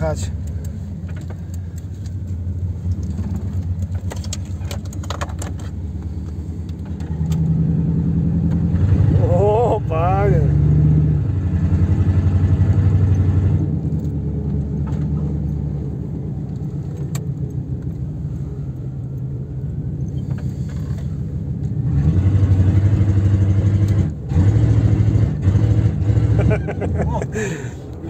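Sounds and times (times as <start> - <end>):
van engine running inside cabin: 0.0 - 28.0.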